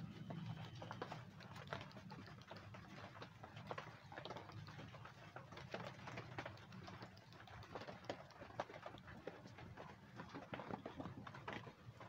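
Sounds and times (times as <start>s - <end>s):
light taps and ticks: 0.0s - 12.0s.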